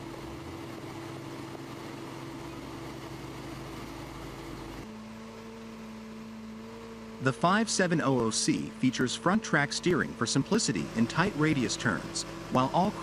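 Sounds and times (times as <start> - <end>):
paving machine engine humming: 0.0 - 13.0.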